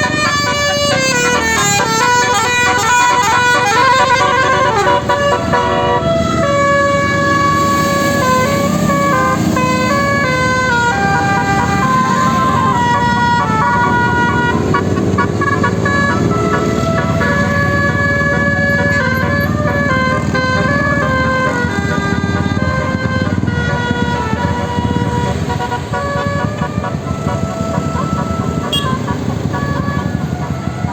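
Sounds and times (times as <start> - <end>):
bus horn playing a tune: 0.0 - 30.9.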